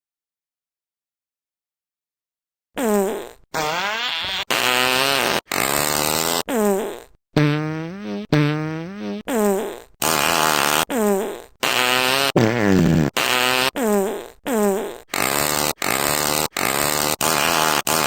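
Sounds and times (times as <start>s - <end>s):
comic fart sound effects: 2.8s - 18.0s.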